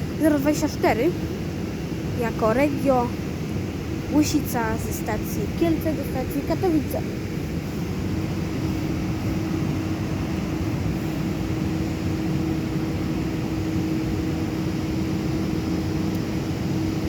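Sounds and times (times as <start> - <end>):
electric train equipment hum: 0.0 - 17.0.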